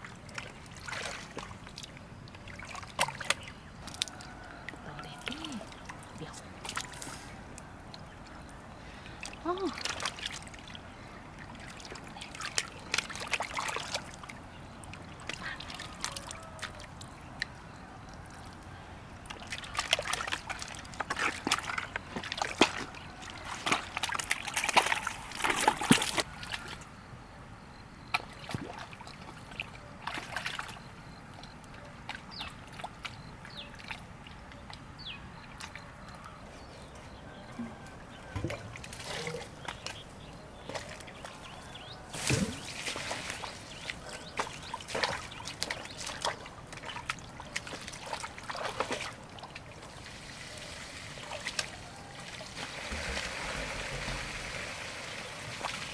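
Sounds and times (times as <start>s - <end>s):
water splashing and sloshing: 0.0s - 27.0s, 28.0s - 55.9s.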